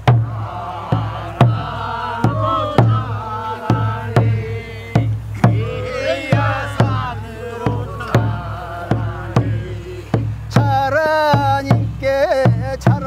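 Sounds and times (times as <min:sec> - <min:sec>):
barrel drum beat: 0:00.0 - 0:13.0
voices singing slow melody: 0:00.0 - 0:13.0.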